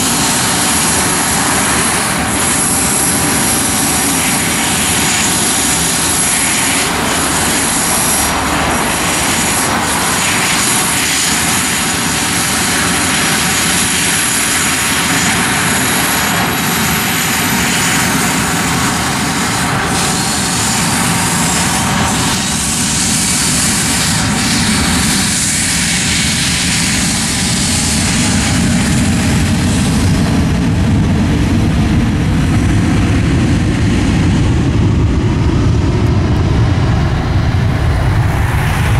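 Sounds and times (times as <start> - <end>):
jet engine rumble: 0.0 - 38.9
jet engines whining: 0.0 - 38.9.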